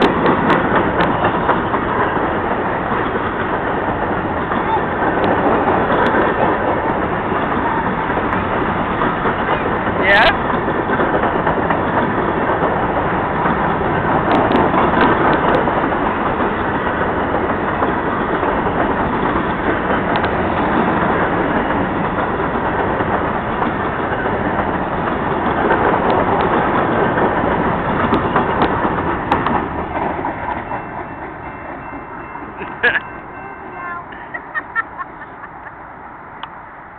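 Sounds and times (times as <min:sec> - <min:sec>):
train wheels on rails: 0:00.0 - 0:36.9.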